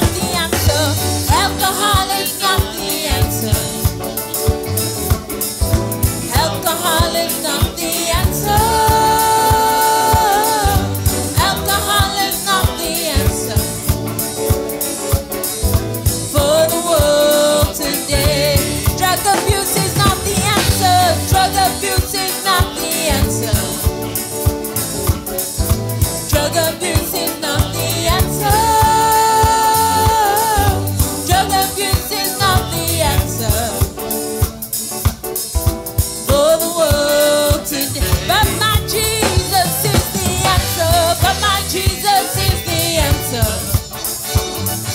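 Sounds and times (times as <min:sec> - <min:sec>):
band with drum kit beat: 0:00.0 - 0:44.9.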